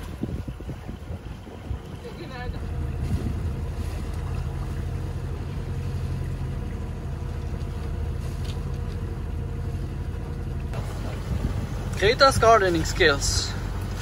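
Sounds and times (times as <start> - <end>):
boat engine droning: 0.0 - 14.0
wind and water hiss: 0.0 - 14.0.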